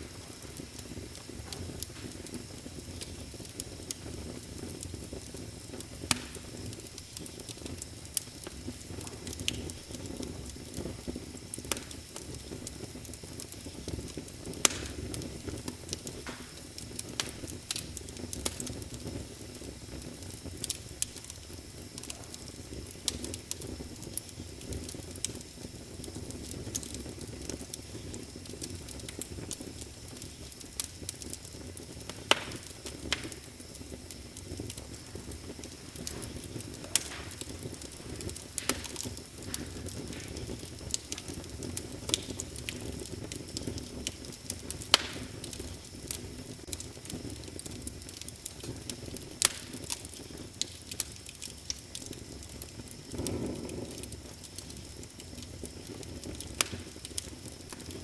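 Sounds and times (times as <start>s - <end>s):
fire popping: 0.0s - 58.0s
flames rumbling: 0.0s - 58.0s
wood fire crackling: 0.0s - 58.0s.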